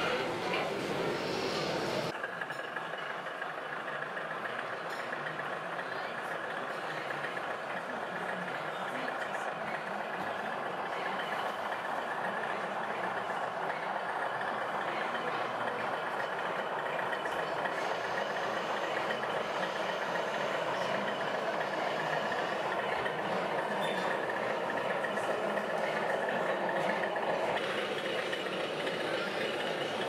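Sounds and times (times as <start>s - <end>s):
busy hall background noise: 0.0s - 30.0s
model trains running: 0.0s - 30.0s.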